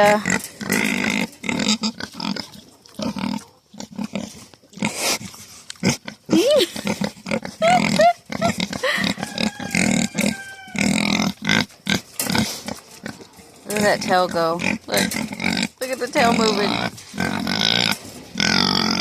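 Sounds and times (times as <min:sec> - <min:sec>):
pigs squealing: 0:00.0 - 0:05.2, 0:05.8 - 0:19.0
pigs grunting: 0:00.0 - 0:19.0.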